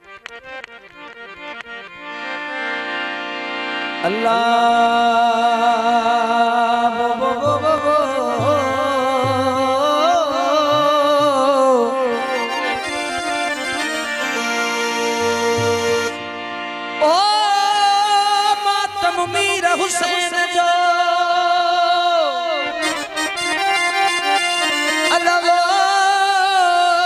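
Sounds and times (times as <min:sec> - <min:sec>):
harmonium playing: 0:00.0 - 0:27.0.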